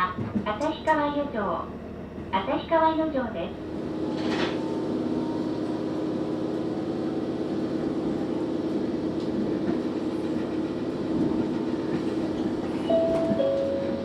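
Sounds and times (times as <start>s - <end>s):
rail rumble: 0.0s - 14.0s
railcar engine drone: 0.0s - 14.0s.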